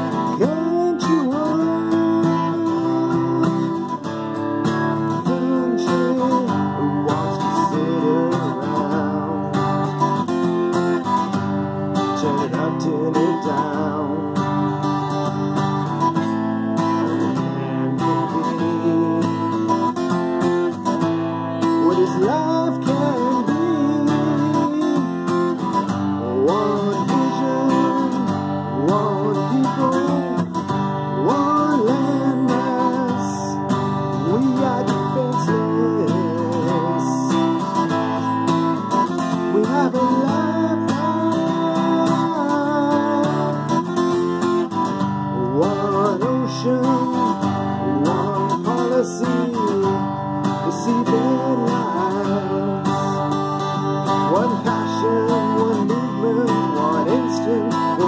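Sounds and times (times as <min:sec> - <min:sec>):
acoustic guitar strumming chords: 0:00.0 - 0:58.0
man singing: 0:00.0 - 0:58.0.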